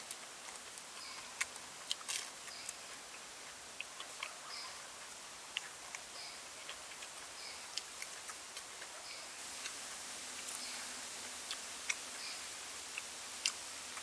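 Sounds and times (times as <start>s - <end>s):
crispy batter crackling: 0.0s - 14.0s
forest background hiss: 0.0s - 14.0s.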